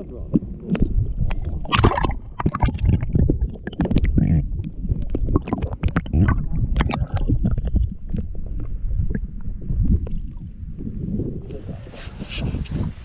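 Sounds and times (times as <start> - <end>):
underwater rumbling and gurgling: 0.0 - 13.0.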